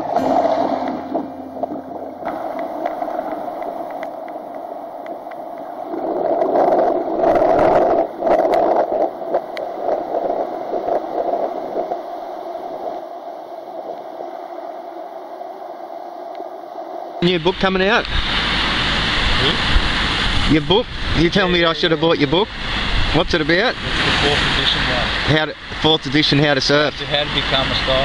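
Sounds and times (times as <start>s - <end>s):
ocean surf on beach: 0.0s - 17.4s, 18.2s - 26.4s.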